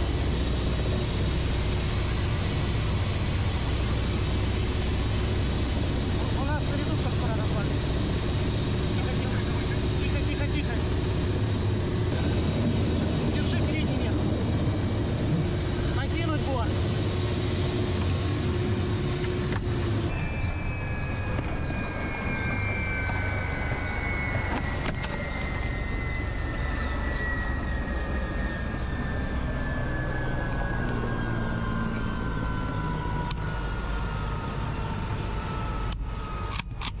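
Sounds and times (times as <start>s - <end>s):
helicopter noise: 0.0s - 37.0s
turbine engine whine: 0.0s - 37.0s.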